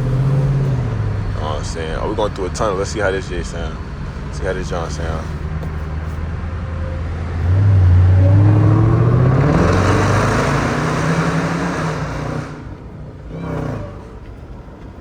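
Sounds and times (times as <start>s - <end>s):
car engine accelerating hard: 0.0s - 14.8s.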